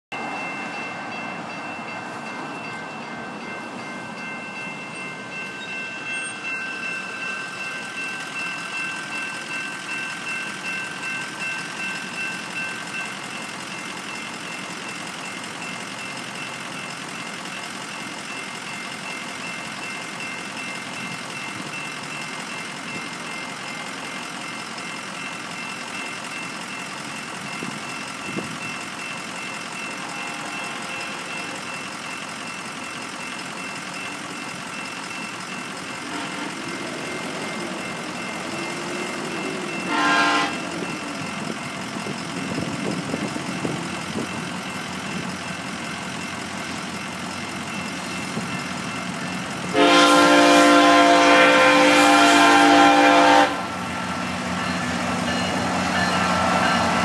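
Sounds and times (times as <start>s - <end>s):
crossing warning bells ringing: 0.1s - 57.0s
road traffic: 0.1s - 57.0s.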